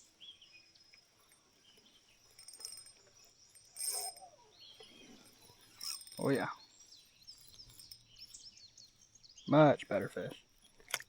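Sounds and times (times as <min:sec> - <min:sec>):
bird chirps: 0:00.0 - 0:10.8
insects droning: 0:00.0 - 0:11.0.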